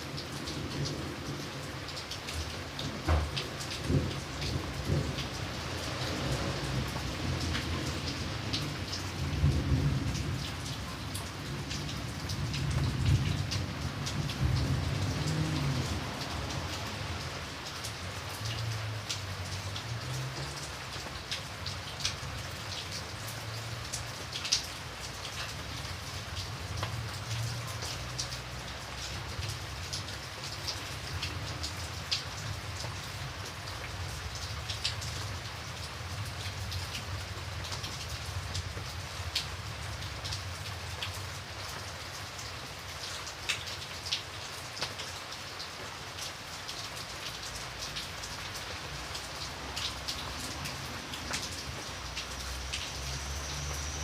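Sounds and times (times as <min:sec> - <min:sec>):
rain drops on hard surface: 0:00.0 - 0:54.0.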